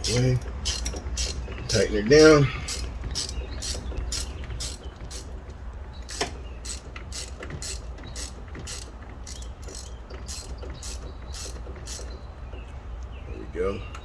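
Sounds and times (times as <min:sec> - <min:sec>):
ratchet wrench clicking: 0:00.0 - 0:05.4, 0:06.0 - 0:12.1
steady low hum: 0:00.0 - 0:14.0.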